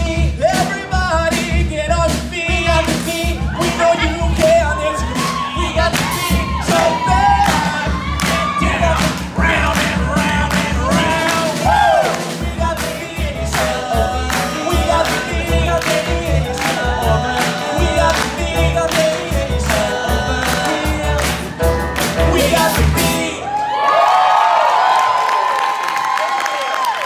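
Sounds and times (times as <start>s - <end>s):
steady driving beat: 0.0s - 23.3s
men singing pop live: 0.0s - 23.5s.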